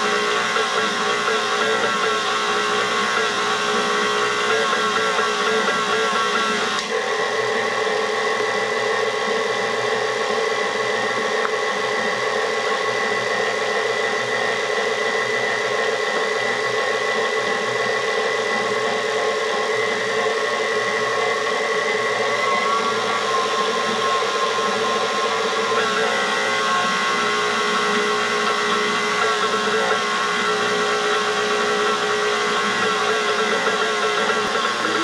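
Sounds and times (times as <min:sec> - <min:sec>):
kitchen mixer motor whining: 0:00.0 - 0:35.0.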